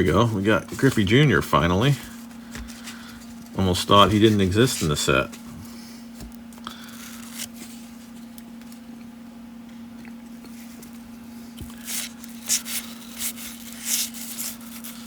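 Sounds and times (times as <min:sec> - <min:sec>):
cards rustling: 0:00.0 - 0:08.8, 0:11.6 - 0:15.0
steady low hum: 0:00.0 - 0:15.0.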